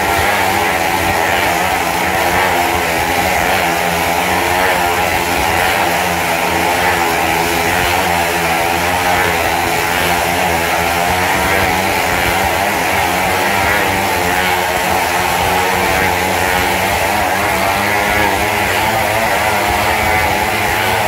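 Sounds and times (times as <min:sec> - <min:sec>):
motorcycle engines droning: 0:00.0 - 0:21.0.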